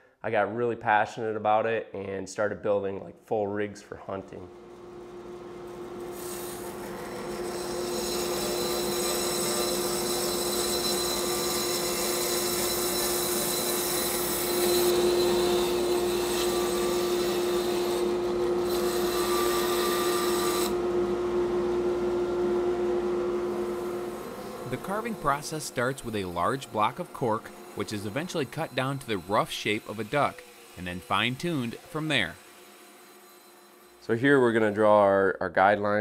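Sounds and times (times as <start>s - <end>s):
band saw motor hum: 4.4s - 35.0s
band saw cutting: 4.8s - 35.1s.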